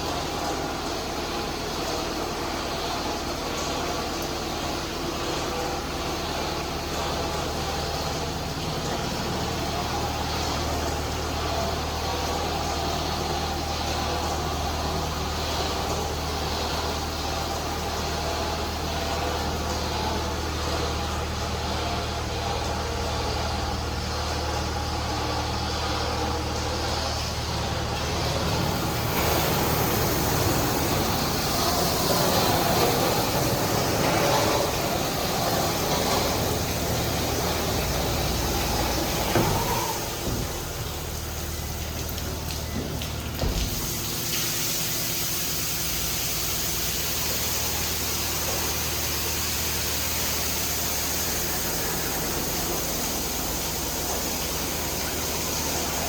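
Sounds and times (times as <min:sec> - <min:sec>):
car wash machinery humming: 0:00.0 - 0:56.0.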